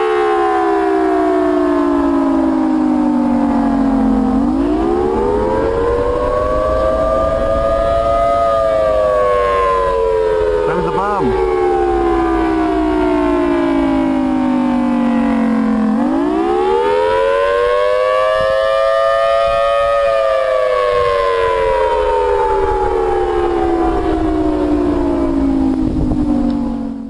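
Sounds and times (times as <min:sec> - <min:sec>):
civil defence siren wailing: 0:00.0 - 0:27.0.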